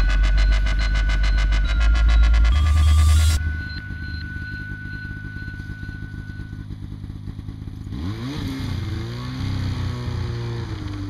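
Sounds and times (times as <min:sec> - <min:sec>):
vehicle engine running and revving: 0:00.0 - 0:11.0.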